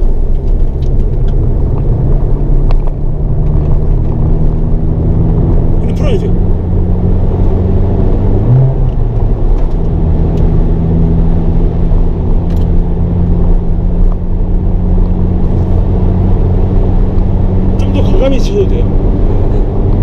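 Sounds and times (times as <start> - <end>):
car engine running: 0.0 - 20.0
road and tyre noise: 0.0 - 20.0.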